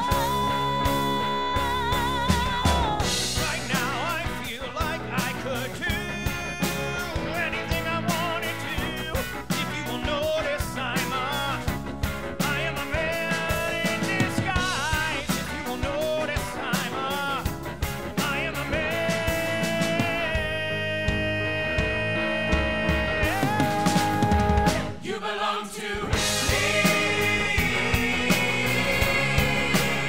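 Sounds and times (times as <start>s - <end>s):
rock band music: 0.0s - 30.0s.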